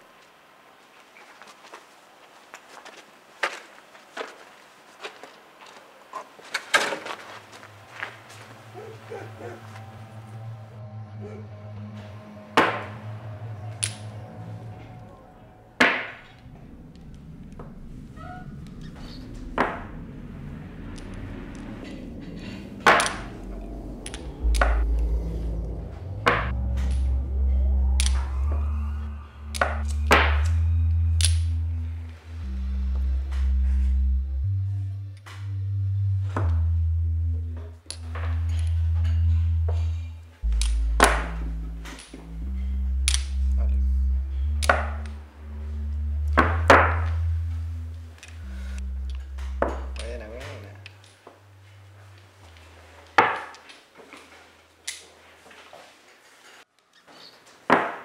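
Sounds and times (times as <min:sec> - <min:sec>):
deep low drone: 0:07.2 - 0:53.6.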